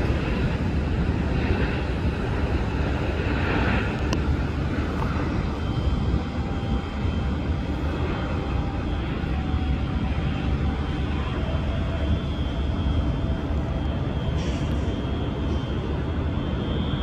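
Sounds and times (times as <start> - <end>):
faint high whine: 0.0 - 17.0
jet engines rumbling: 0.0 - 17.0.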